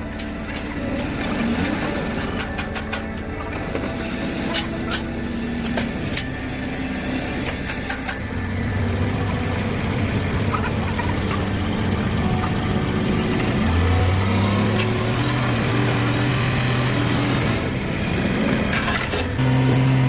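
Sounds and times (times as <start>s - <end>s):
motor running with low hum: 0.0s - 20.0s.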